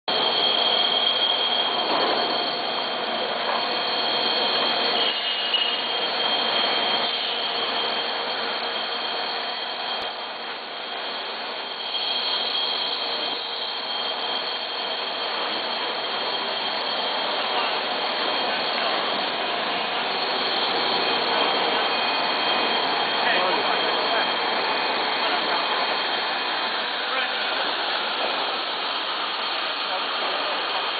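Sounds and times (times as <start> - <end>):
extrusion machine whine and hiss: 0.1 - 30.9.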